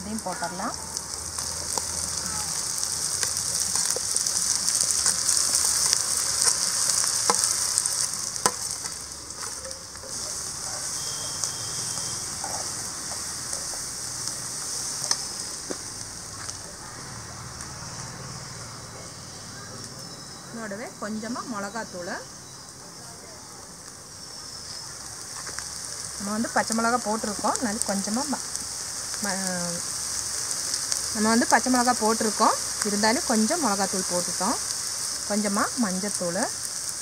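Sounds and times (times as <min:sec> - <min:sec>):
onion sizzling in hot oil: 0:00.0 - 0:37.0.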